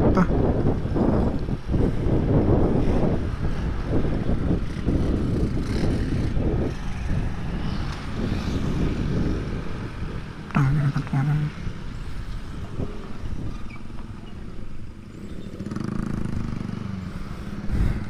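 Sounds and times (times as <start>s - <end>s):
wind rushing over microphone: 0.0s - 18.0s
motorcycle engine running: 0.3s - 10.5s, 11.6s - 18.0s.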